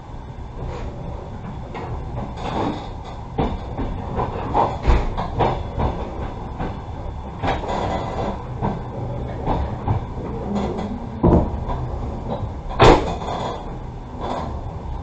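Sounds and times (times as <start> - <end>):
train wheels clattering on rails: 0.6 - 15.0.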